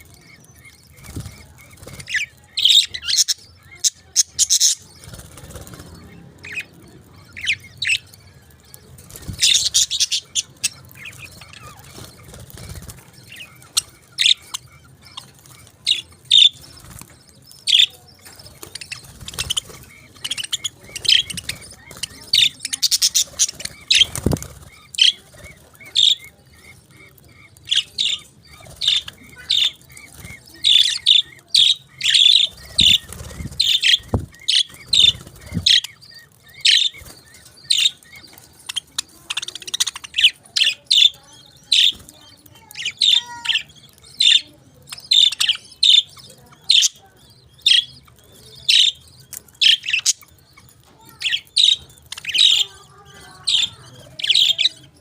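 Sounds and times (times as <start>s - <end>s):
parakeets chirping: 0.0s - 55.0s.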